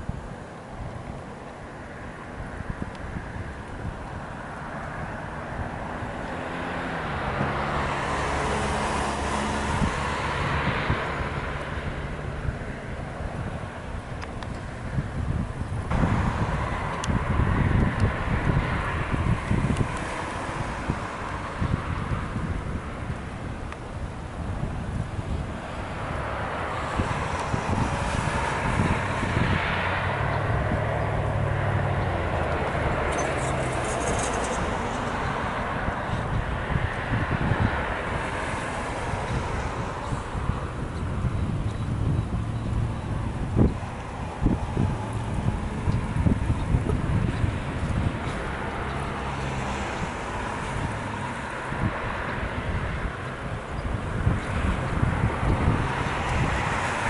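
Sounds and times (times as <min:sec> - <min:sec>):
traffic: 0:00.0 - 0:57.0
wind: 0:00.0 - 0:57.0
motor vehicle passing by: 0:01.9 - 0:57.0.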